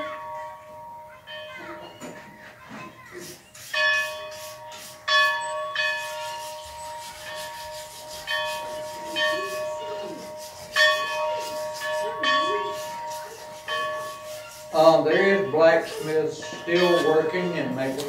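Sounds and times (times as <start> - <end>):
faint children's voices: 0.0 - 18.0.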